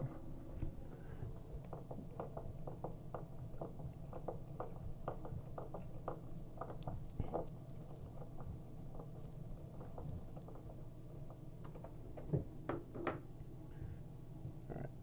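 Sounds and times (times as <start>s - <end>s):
steady low hum: 0.0s - 15.0s
small parts clicking and tapping: 1.2s - 13.3s.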